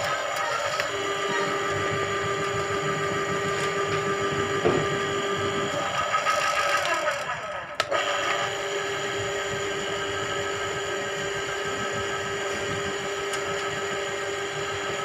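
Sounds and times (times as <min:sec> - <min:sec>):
drain cleaning machine running: 0:00.0 - 0:15.0.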